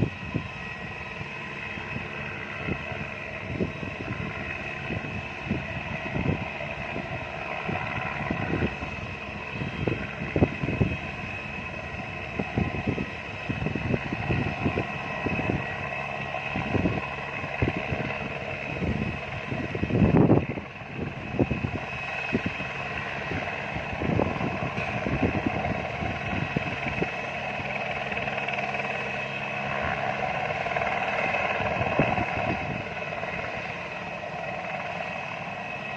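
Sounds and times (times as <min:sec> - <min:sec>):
helicopter turbine whine: 0:00.0 - 0:35.9
wind gusts on microphone: 0:00.0 - 0:35.9.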